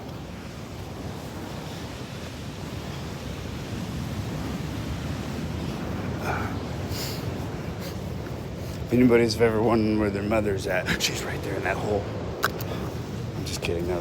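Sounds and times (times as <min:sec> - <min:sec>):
surf rushing: 0:00.0 - 0:14.0
wind on microphone: 0:00.0 - 0:14.0.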